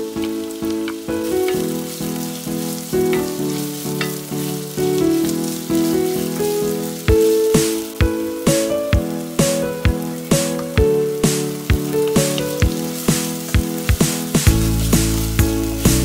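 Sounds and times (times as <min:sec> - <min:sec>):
onion sizzling in oil: 0:00.0 - 0:16.0.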